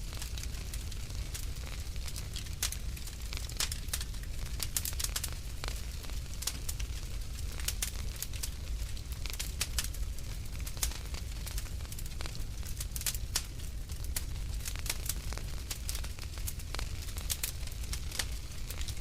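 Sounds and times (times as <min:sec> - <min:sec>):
low rumble of fire: 0:00.0 - 0:19.0
wood fire crackling and popping: 0:00.0 - 0:19.0.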